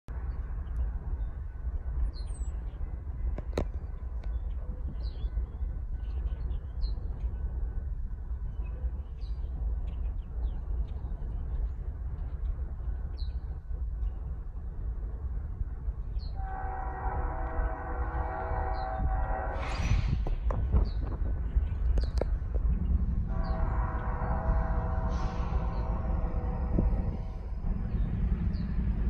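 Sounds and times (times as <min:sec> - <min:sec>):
steady low rumble: 0:00.1 - 0:29.0.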